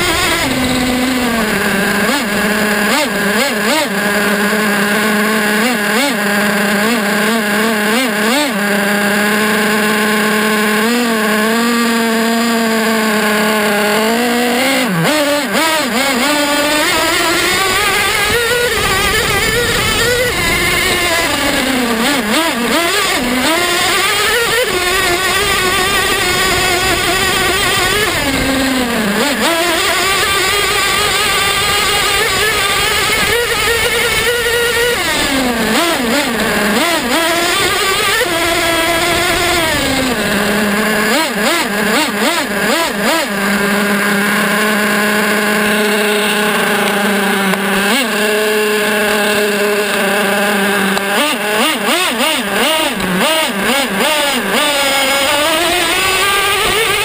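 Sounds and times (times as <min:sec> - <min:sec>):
rc engine revving: 0:00.0 - 0:57.0.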